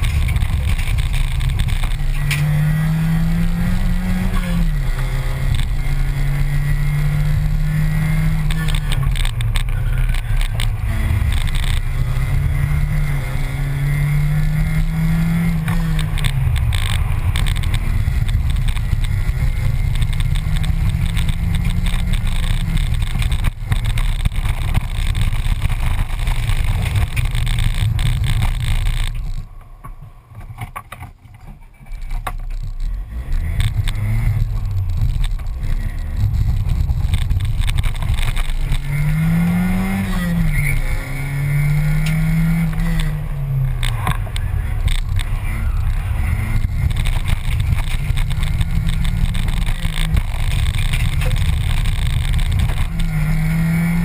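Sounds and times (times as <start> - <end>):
rally car engine revving: 0.0 - 29.5, 32.0 - 54.0.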